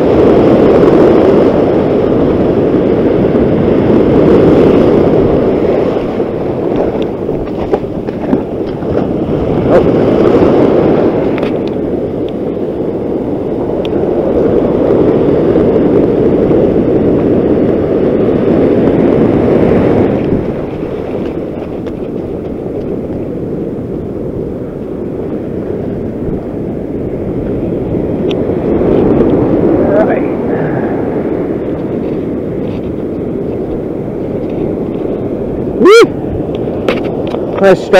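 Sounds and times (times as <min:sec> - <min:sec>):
breaking surf: 0:00.0 - 0:37.9
wind on microphone: 0:00.0 - 0:37.9.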